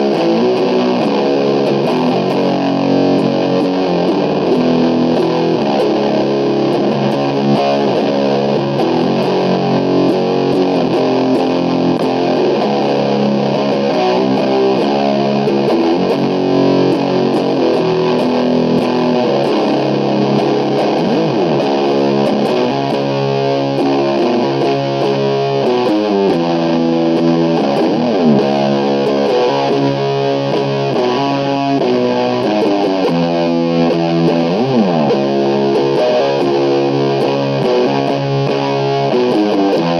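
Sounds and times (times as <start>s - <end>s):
distorted electric guitar riff: 0.0s - 39.9s.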